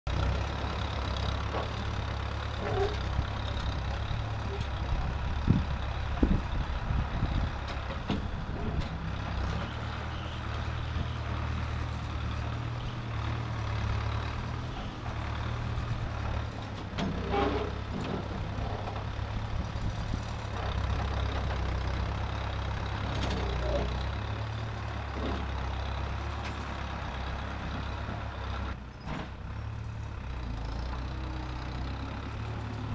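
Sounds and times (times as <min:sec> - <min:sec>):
backhoe engine running: 0:00.1 - 0:32.9.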